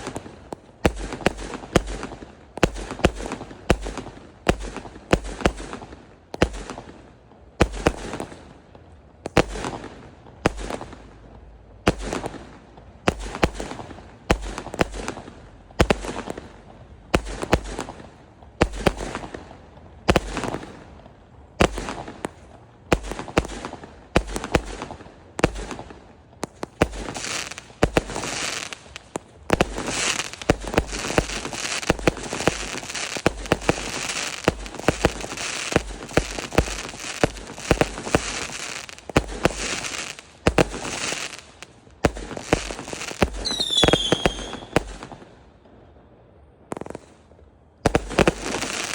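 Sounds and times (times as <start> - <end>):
fireworks bangs: 0.0 - 6.9, 11.9 - 45.8, 46.7 - 47.2, 47.8 - 48.9
dense fireworks crackle: 0.0 - 48.9.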